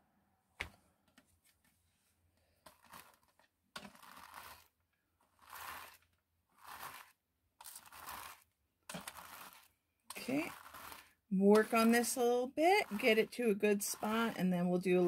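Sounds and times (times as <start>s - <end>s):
hairbrush rasping through hair: 2.6s - 15.0s.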